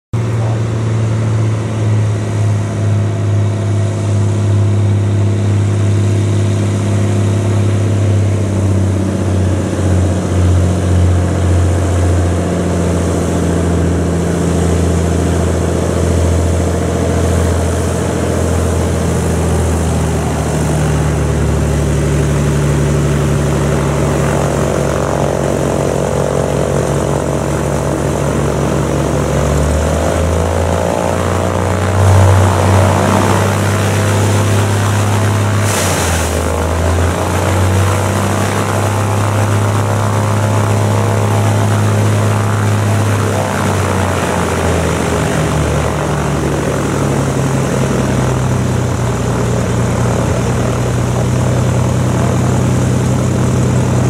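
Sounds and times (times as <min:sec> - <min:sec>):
propeller plane engine droning: 0:00.1 - 0:54.0.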